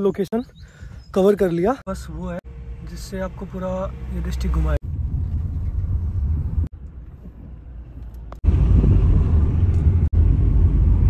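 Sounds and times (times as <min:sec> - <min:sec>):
low rumbling noise: 0:02.0 - 0:11.0.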